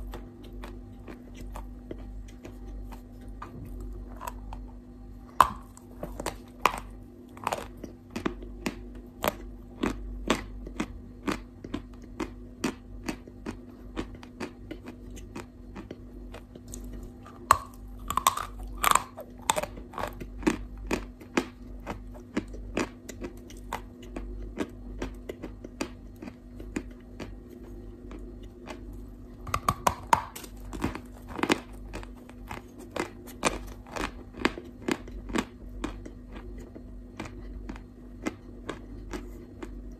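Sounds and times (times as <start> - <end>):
chewing and crunching chalk: 0.0 - 39.9.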